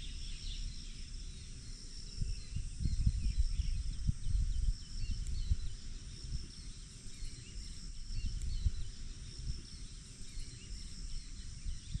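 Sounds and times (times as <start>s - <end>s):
insects droning: 0.0s - 12.0s
wind on microphone: 2.0s - 12.0s.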